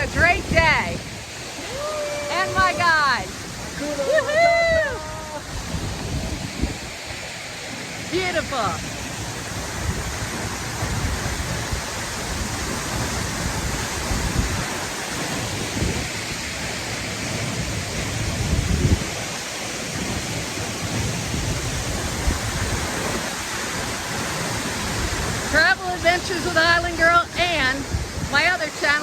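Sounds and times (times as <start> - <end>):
waterfall roaring: 0.0 - 29.0
wind buffeting microphone: 0.0 - 29.0.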